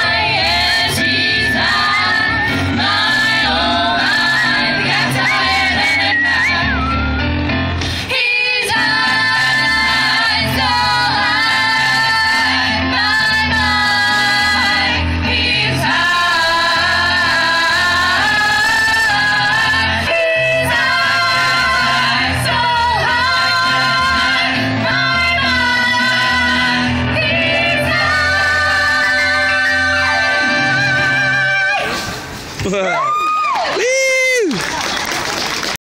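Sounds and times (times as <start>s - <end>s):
vocal group singing in harmony: 0.0s - 32.3s.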